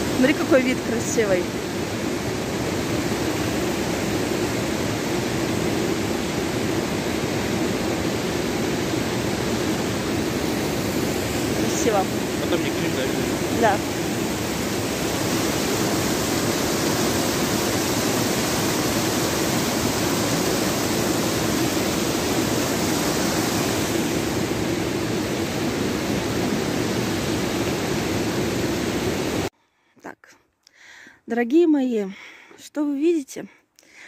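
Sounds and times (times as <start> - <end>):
water rushing over boulders: 0.0 - 29.5.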